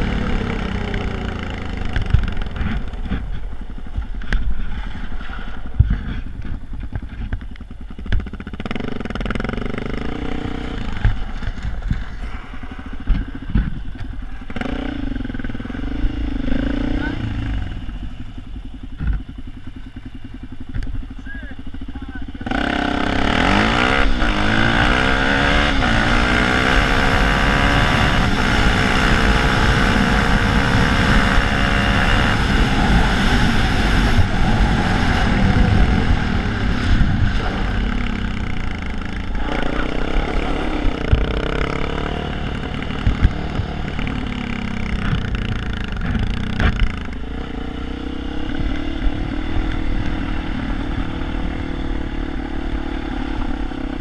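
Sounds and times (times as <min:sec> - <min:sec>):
quad bike engine revving: 0:00.0 - 0:03.4, 0:08.0 - 0:54.0.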